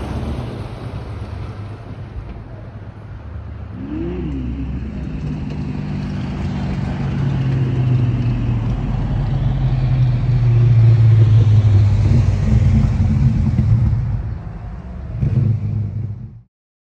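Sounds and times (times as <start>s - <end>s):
car engine running at low revs: 0.0s - 16.4s.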